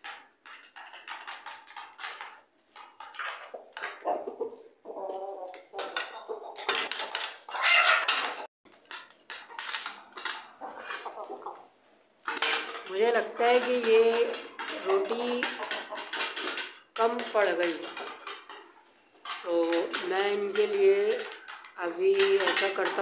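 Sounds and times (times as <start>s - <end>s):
chickens clucking: 0.6s - 8.5s, 9.3s - 23.0s.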